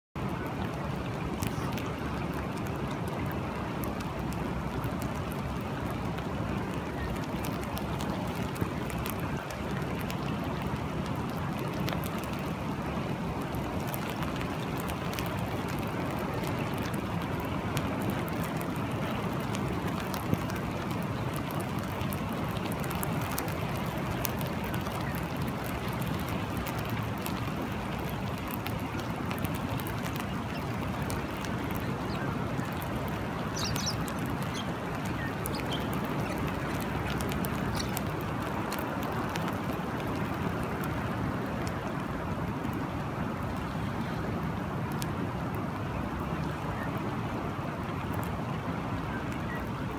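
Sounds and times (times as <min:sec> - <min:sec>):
rain falling on a river: 0:00.2 - 0:49.9
drops ticking close by: 0:01.0 - 0:41.0.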